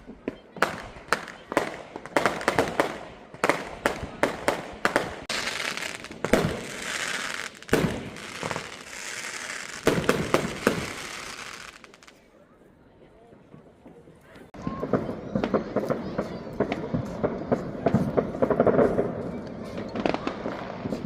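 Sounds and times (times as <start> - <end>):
fireworks banging: 0.0 - 12.2, 13.8 - 21.0
fireworks crackling: 0.0 - 12.2, 14.4 - 21.0.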